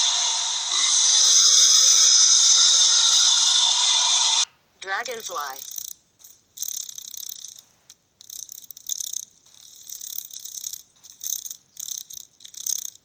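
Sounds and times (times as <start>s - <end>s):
dragonfly wings whirring: 0.0s - 4.5s, 5.4s - 13.0s.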